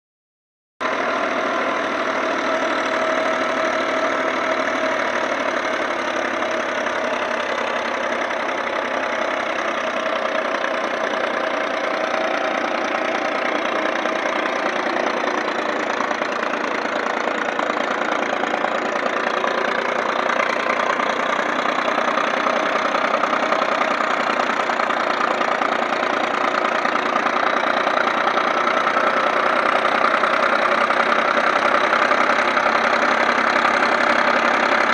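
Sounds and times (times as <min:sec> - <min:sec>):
tractor diesel engine running: 0:00.8 - 0:34.9.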